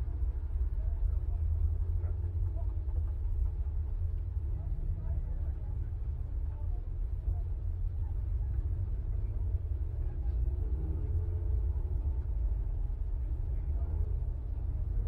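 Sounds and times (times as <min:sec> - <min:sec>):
faint voices talking: 0:00.0 - 0:15.0
steady low rumble: 0:00.0 - 0:15.0.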